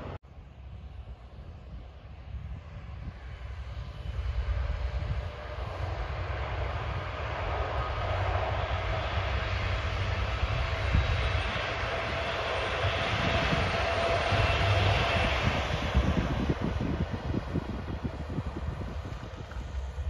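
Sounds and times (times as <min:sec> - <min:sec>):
diesel train approaching: 0:00.0 - 0:20.0
low rumble: 0:00.0 - 0:20.0.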